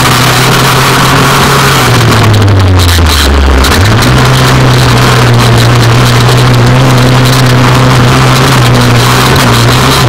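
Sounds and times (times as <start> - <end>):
dirt noise: 0.0 - 10.0
dune buggy engine running: 0.0 - 10.0.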